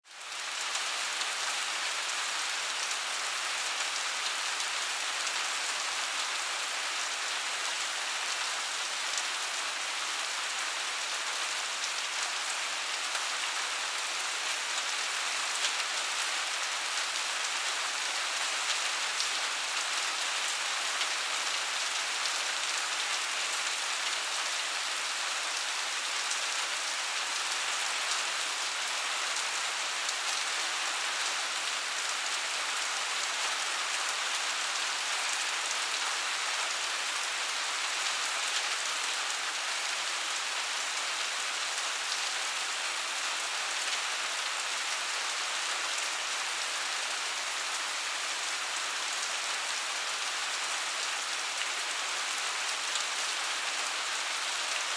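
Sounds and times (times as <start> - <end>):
steady rain patter: 0.0 - 54.9.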